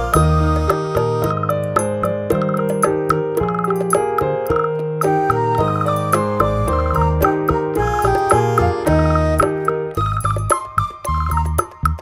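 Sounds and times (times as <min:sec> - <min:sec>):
light instrumental melody: 0:00.0 - 0:12.0.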